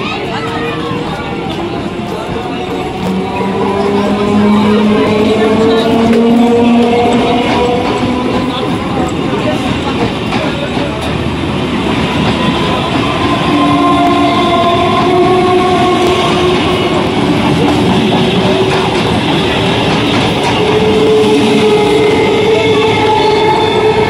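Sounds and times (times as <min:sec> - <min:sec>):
steady tones from train: 0:00.0 - 0:24.0
train rumbling past: 0:00.0 - 0:24.0.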